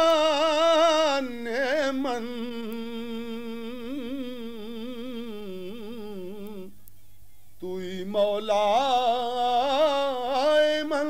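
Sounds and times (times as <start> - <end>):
man singing: 0.0 - 6.8, 7.6 - 11.0.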